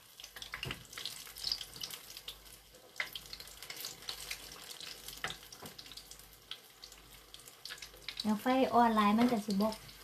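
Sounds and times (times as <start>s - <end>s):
food deep-frying in hot oil: 0.0s - 10.0s
oil crackling and popping: 0.0s - 10.0s.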